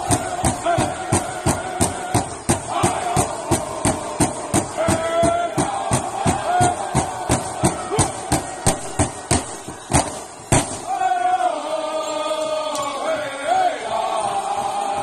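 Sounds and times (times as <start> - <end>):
group singing in unison: 0.0 - 9.8, 10.8 - 15.0.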